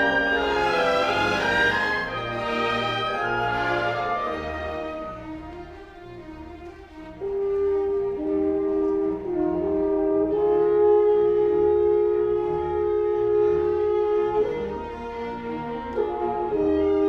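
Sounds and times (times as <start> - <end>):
horns and strings holding chords: 0.0 - 17.0.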